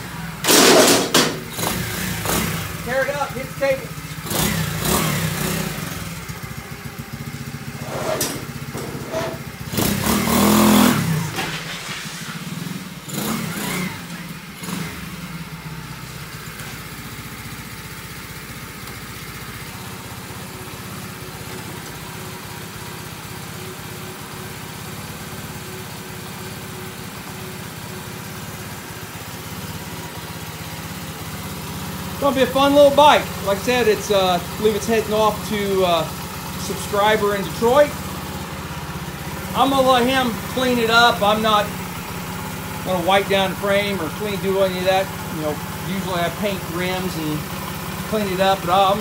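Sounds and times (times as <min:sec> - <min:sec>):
small motorbike engine idling: 0:00.0 - 0:49.0
small motorbike engine revving: 0:00.0 - 0:49.0.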